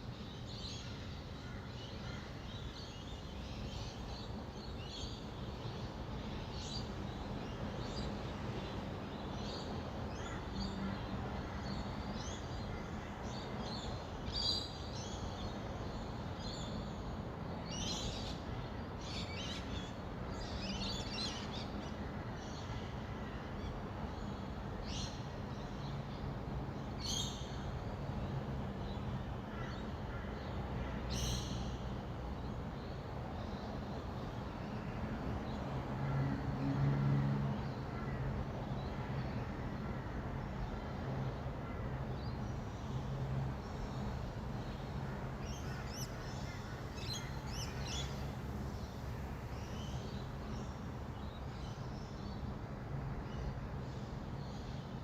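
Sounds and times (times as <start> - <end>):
distant city traffic hum: 0.0 - 55.0.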